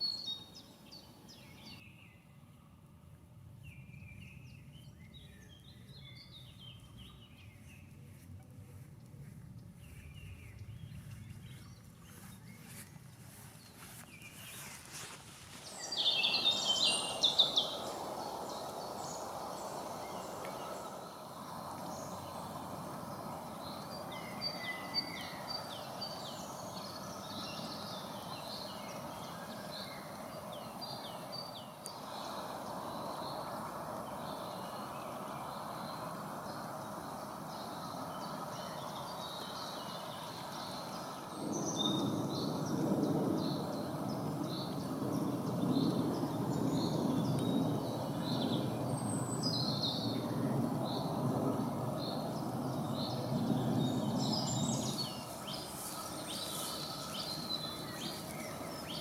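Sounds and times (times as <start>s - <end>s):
birds singing and calling: 3.7s - 59.0s.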